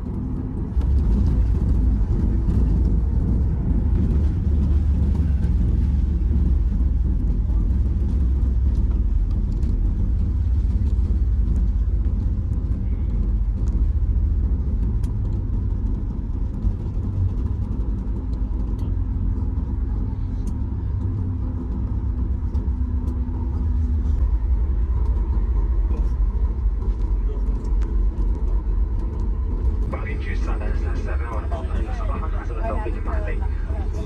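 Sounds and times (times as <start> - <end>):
faint steady hum: 0.0 - 34.0
jet cabin rumble while taxiing: 0.0 - 34.0.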